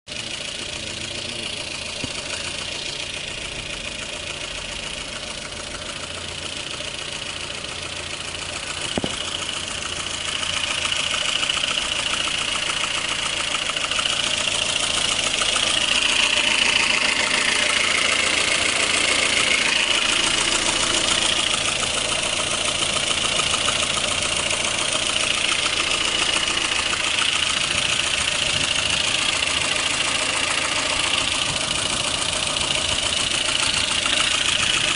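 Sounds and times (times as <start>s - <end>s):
car engine knocking: 0.1s - 34.9s.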